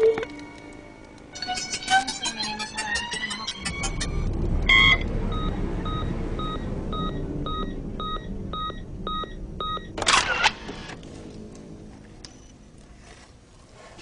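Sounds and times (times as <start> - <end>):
low rumble: 2.0 - 13.5.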